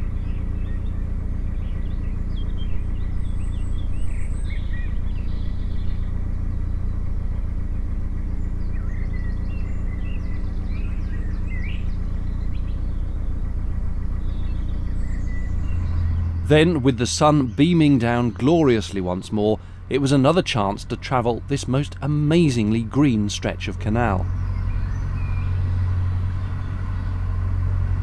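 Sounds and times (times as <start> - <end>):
boat engine drone: 0.0 - 28.0
small birds chirping: 0.0 - 28.0.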